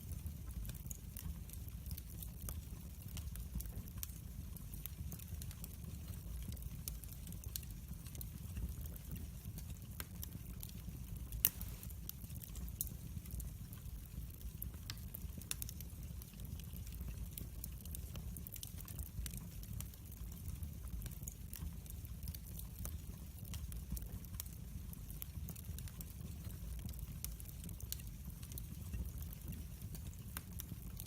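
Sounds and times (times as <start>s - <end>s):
fire crackling and popping: 0.0s - 31.0s
fire flames rumbling: 0.0s - 31.0s.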